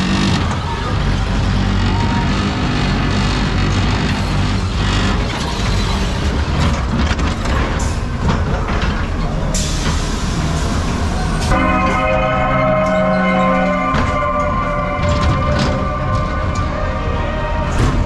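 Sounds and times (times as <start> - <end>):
ride car rumbling on track: 0.0 - 18.0.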